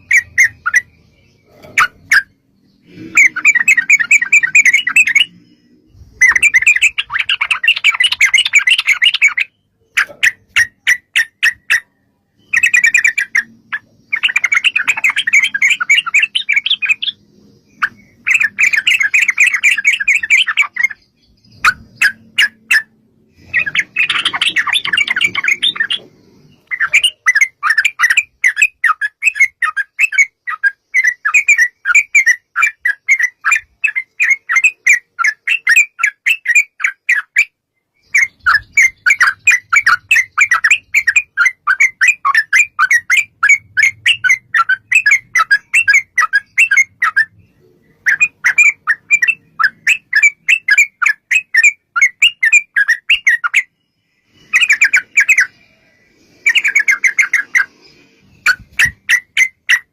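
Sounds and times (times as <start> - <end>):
birds chattering calls: 0.0 - 59.9.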